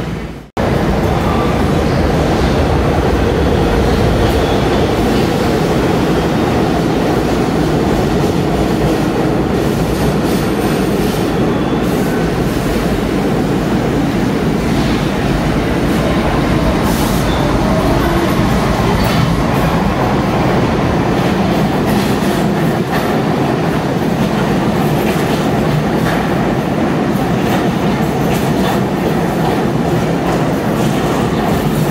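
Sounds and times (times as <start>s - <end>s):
subway train rumble: 0.0s - 31.9s.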